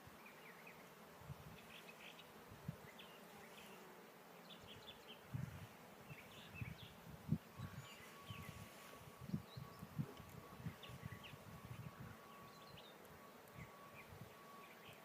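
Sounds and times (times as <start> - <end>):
honey bees buzzing: 0.2 - 15.0.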